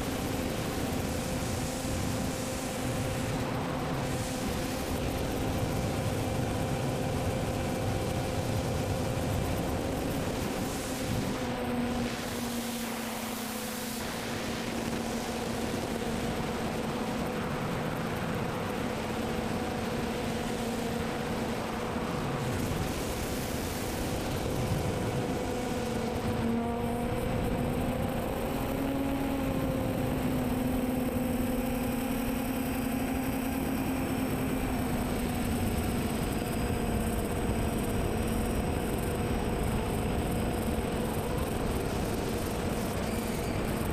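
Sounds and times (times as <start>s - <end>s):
drone motors and propellers humming: 0.0s - 43.9s
wind rushing over microphone: 0.0s - 43.9s.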